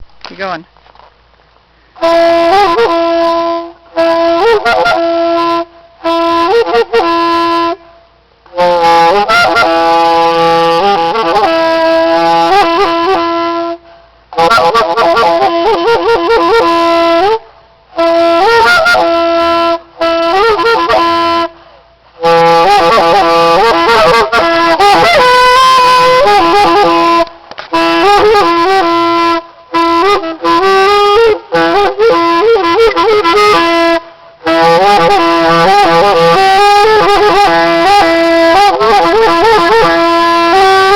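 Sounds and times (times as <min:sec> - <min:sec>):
solo saxophone playing: 0:02.0 - 0:40.9.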